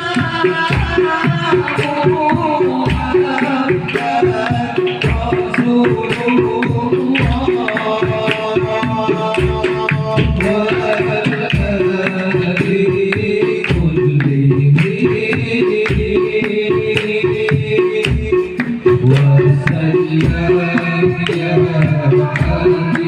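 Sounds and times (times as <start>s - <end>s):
hand drums beating: 0.0s - 23.0s
held melody line: 0.0s - 23.0s
bass drum thumps: 4.3s - 23.0s.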